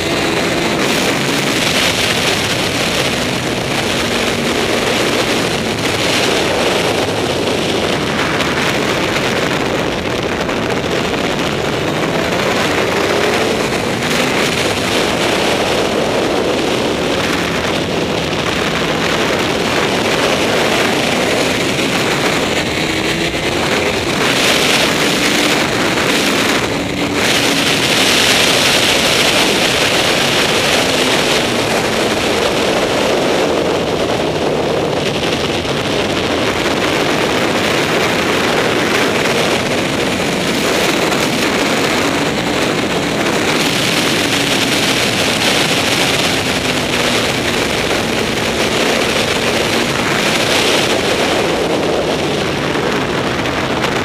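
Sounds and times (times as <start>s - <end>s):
loud wind rush on microphone: 0.0s - 54.0s
motorcycle engine at speed: 0.0s - 54.0s.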